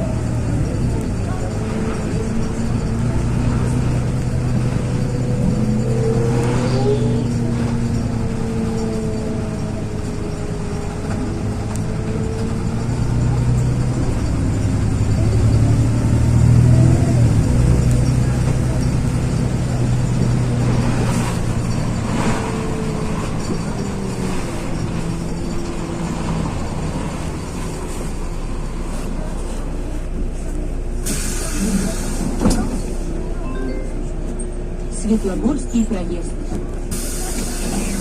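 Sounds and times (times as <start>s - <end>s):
bus engine drone with whine: 0.0s - 38.0s.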